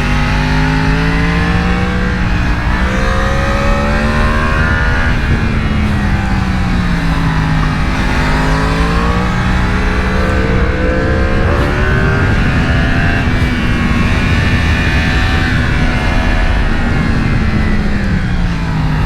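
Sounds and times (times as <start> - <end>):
motorcycle engine accelerating: 0.0 - 19.0
wind rush: 0.0 - 19.0.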